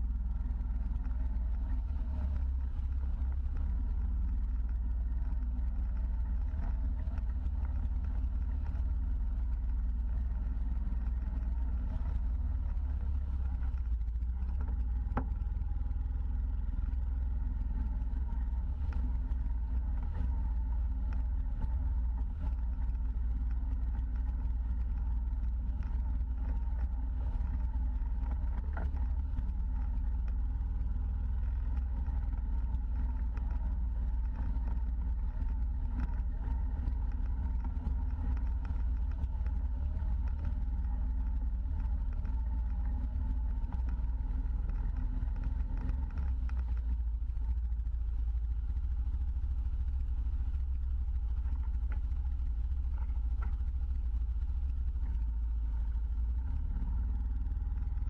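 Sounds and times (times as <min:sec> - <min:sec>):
faint clicks and rattles: 0:00.0 - 0:58.0
utility vehicle engine droning: 0:00.0 - 0:58.0.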